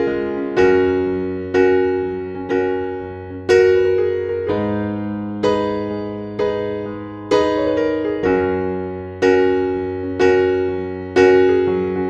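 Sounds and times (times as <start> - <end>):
slow piano notes and chords: 0.0 - 12.0.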